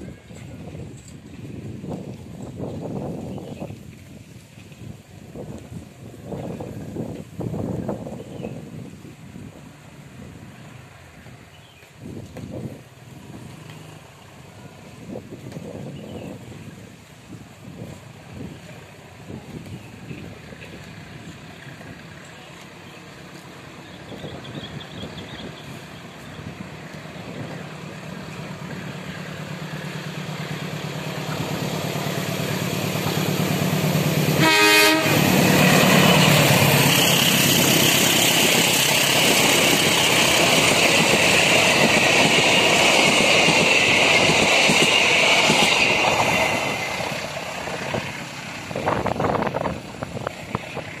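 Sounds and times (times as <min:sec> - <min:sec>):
locomotive engine hum: 0:00.0 - 0:51.0
wheels rushing on rail: 0:00.0 - 0:51.0.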